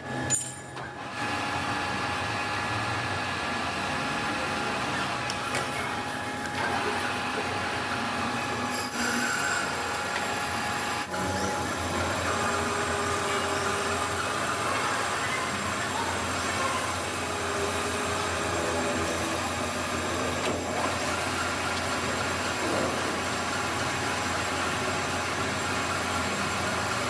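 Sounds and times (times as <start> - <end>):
power tool grinding: 5.2 - 27.0.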